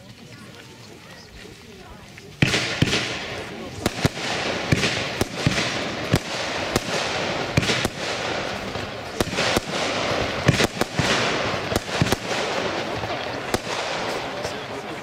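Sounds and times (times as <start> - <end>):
fireworks hissing and crackling: 0.0 - 15.0
fireworks shots and bursts: 2.3 - 15.0.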